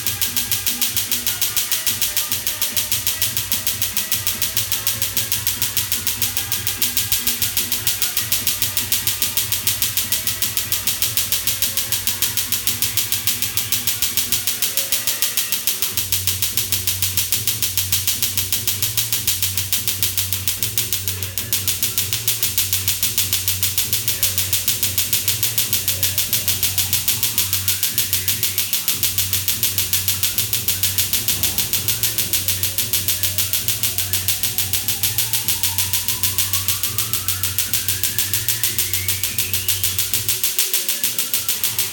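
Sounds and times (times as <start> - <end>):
laser snapping pulses: 0.0 - 41.9.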